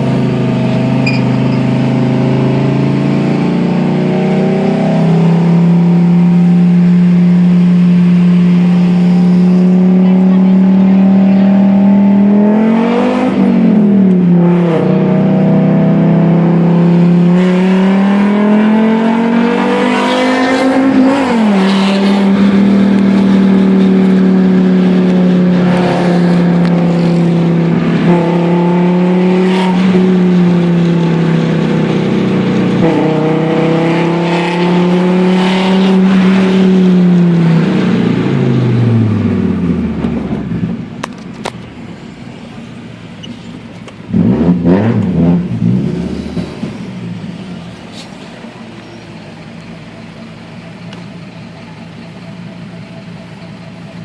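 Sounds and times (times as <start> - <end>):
car engine accelerating through gears: 0.0 - 41.2, 43.2 - 49.7.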